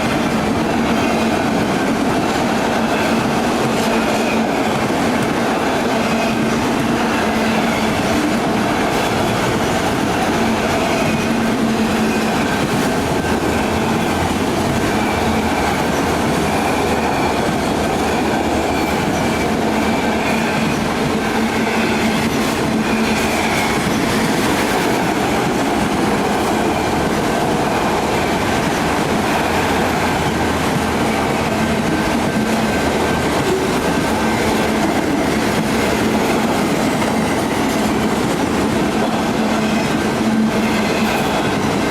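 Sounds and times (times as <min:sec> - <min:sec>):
freight train wheels clacking: 0:00.0 - 0:41.9.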